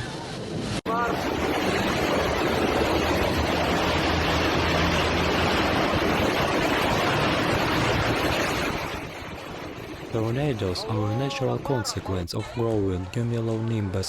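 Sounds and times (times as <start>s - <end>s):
strong wind buffeting microphone: 0.0s - 12.9s.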